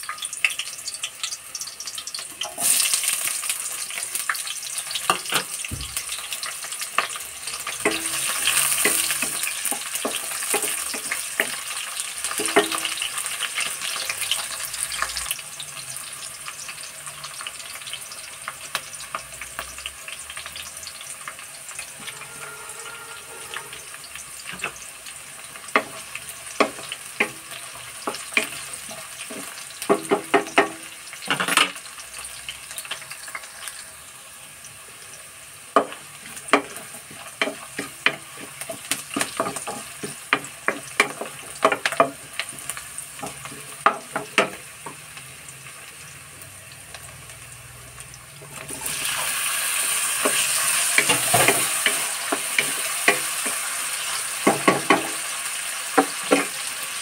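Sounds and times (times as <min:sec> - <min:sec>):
spices crackling in oil: 0:00.0 - 0:22.4, 0:23.5 - 0:57.0
onions sizzling in hot oil: 0:00.0 - 0:57.0.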